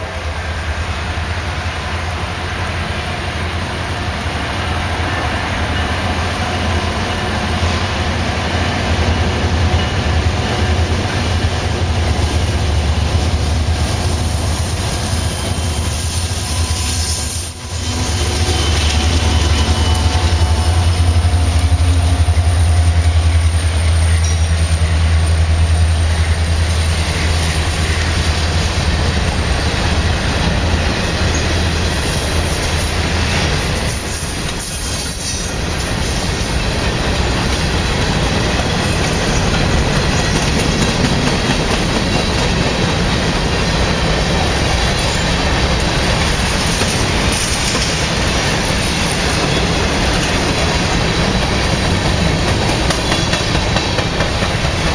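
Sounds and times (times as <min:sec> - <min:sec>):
diesel locomotive drone: 0:00.0 - 0:54.9
freight cars rumbling on rails: 0:00.0 - 0:54.9.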